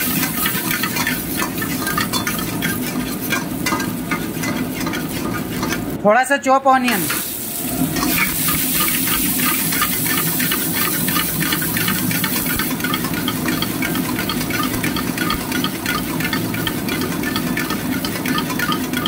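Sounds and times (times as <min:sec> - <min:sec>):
food sizzling in hot oil: 0:00.0 - 0:06.0, 0:06.9 - 0:19.0
metal ladle scraping a wok: 0:00.0 - 0:06.0, 0:07.0 - 0:19.0.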